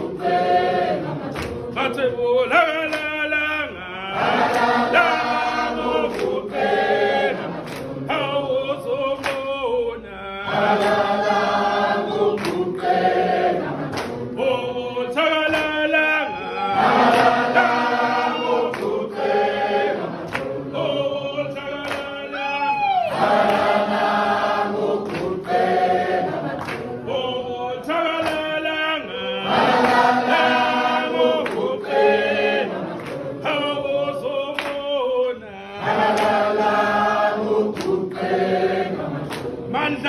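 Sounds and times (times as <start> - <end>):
group singing in harmony: 0.0 - 40.0.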